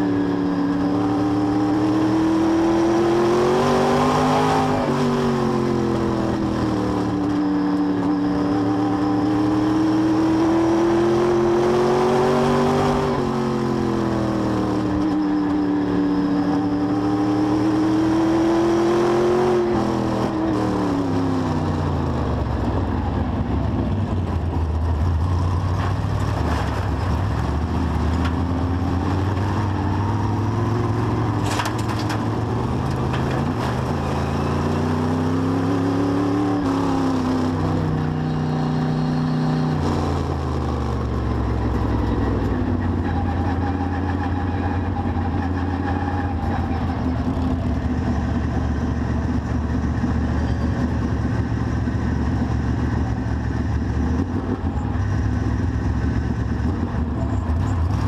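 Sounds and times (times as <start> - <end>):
race car engine revving: 0.0 - 22.8, 23.4 - 58.0.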